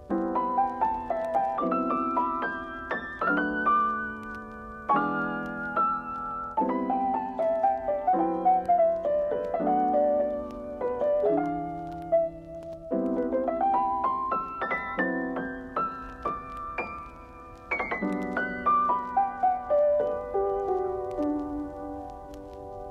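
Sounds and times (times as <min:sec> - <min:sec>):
slow piano music: 0:00.0 - 0:22.9.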